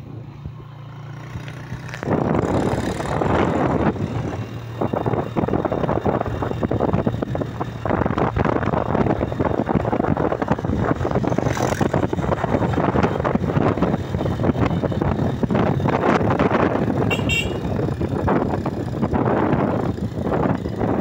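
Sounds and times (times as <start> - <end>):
wind buffeting microphone: 0.0 - 21.0
motorcycle engine running: 0.4 - 21.0.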